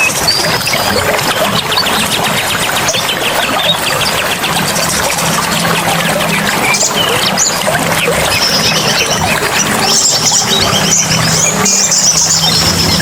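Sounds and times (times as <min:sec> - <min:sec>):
birds chirping and trilling: 0:00.0 - 0:13.0
trickling water: 0:00.0 - 0:13.0.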